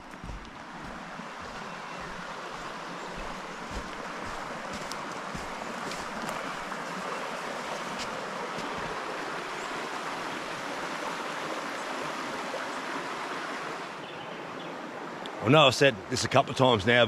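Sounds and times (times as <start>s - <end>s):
river water rushing: 0.0s - 16.7s.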